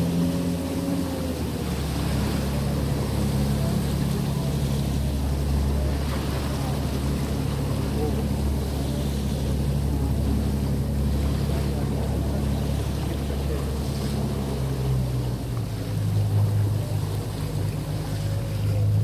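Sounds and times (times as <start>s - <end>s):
motorboat engine running: 0.0s - 19.0s
water noise: 0.0s - 19.0s.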